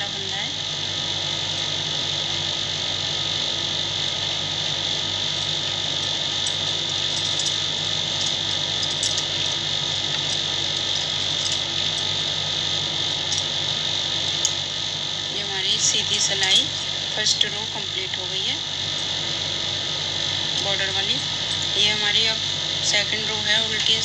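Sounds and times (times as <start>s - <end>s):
insect chorus drone: 0.0s - 24.0s
low electrical hum: 0.0s - 24.0s.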